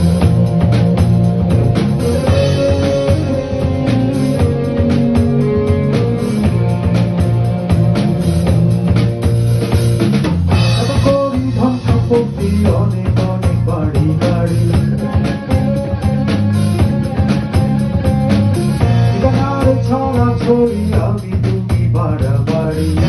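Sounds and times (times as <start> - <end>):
drum kit beat: 0.0 - 23.0
rock band instrumental: 0.0 - 23.0.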